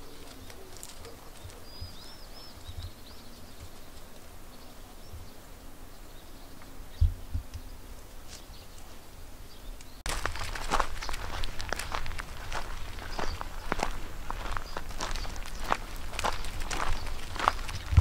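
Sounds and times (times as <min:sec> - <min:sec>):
bird chirps: 0:00.0 - 0:10.0, 0:12.5 - 0:18.0
outdoor background noise: 0:00.0 - 0:18.0.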